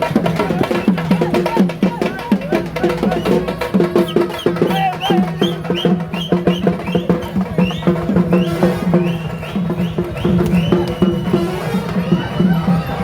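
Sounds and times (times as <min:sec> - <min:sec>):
fast pitched drumming: 0:00.0 - 0:13.0.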